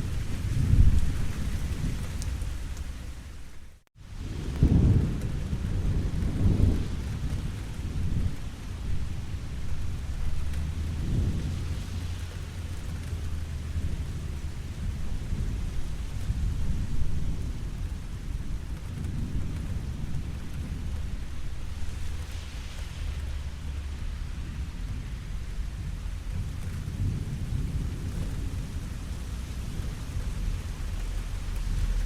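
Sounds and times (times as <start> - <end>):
rolling thunder: 0.0 - 3.4, 4.0 - 32.0
steady rain falling: 0.0 - 32.0.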